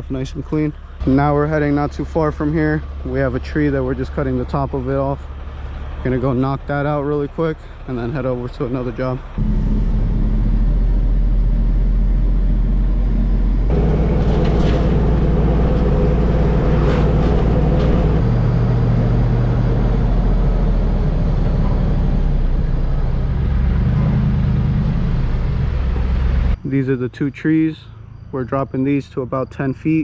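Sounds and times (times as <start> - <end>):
vehicle engine and road noise: 0.0 - 26.7.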